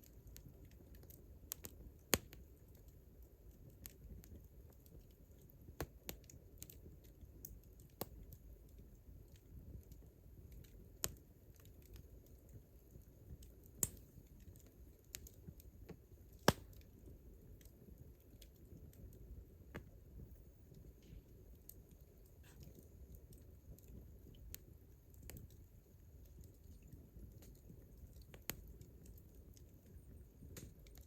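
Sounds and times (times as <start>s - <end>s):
campfire crackling and popping: 0.0s - 31.0s
low fire rumble: 0.0s - 31.0s.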